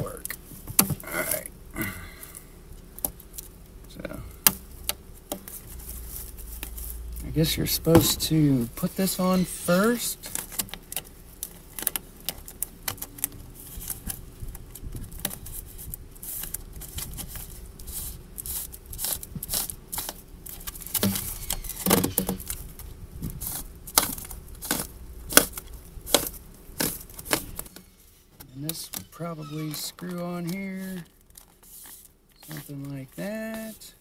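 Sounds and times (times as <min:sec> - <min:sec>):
plastic hose clicking and crinkling: 0:02.8 - 0:08.3, 0:08.9 - 0:33.9.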